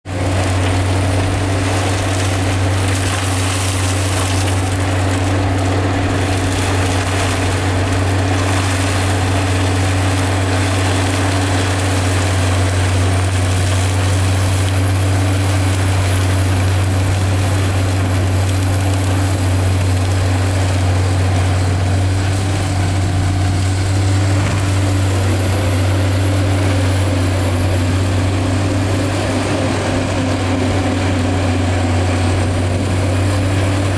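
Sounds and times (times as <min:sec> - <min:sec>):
forestry mulcher grinding: 0:00.1 - 0:33.9.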